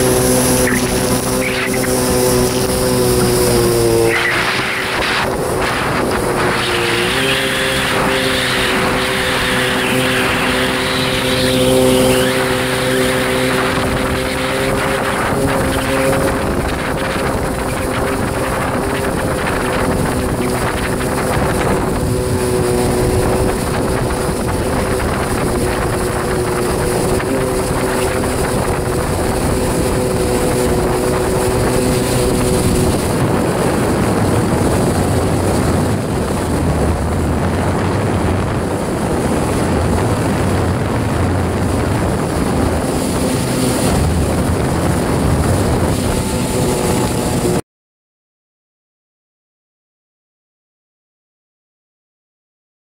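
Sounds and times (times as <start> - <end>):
jet ski engine running: 0.0 - 47.6
water rushing against hull: 0.0 - 47.6.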